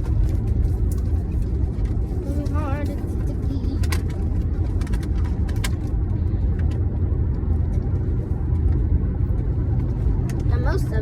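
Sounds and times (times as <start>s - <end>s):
road rumble inside moving car: 0.0s - 11.0s.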